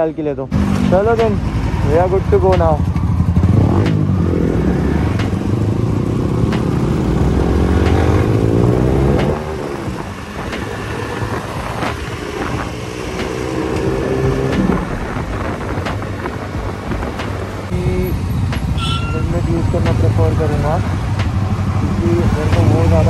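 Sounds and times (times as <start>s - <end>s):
motorcycle engine accelerating: 0.5s - 23.0s.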